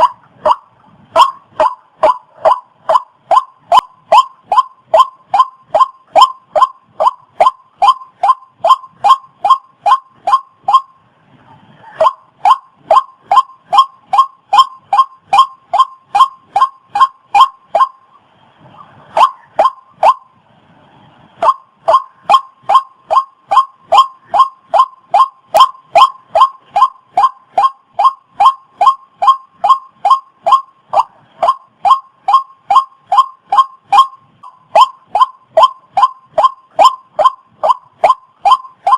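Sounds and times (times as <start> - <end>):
waterhen calling: 0.0 - 20.4, 21.4 - 38.9.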